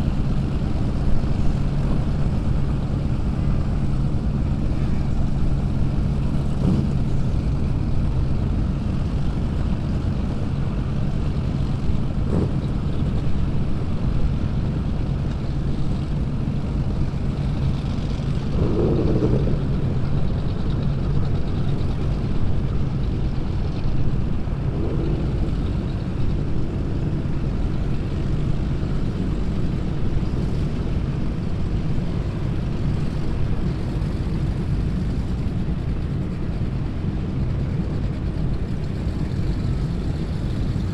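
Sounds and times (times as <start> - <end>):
boat engines idling: 0.0 - 40.9.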